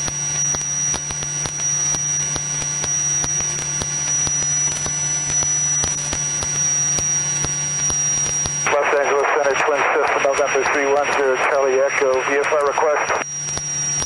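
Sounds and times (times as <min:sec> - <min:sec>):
propeller plane engine drone: 0:00.0 - 0:14.0
thin high whine: 0:00.0 - 0:14.0.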